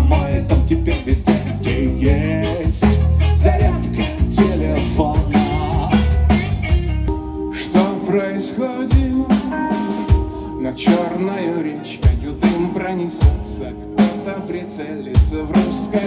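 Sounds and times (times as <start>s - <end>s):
held keyboard chords: 0.0s - 16.0s
live rock band playing: 0.0s - 16.0s.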